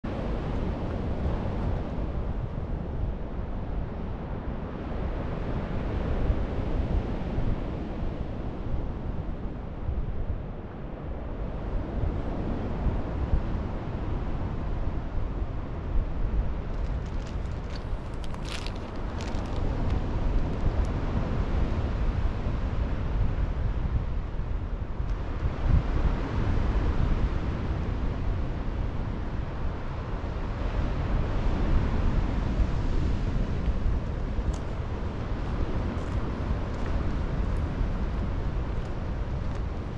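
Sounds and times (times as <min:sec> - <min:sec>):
outdoor rush of noise: 0:00.0 - 0:39.9
wind buffeting microphone: 0:00.0 - 0:39.9.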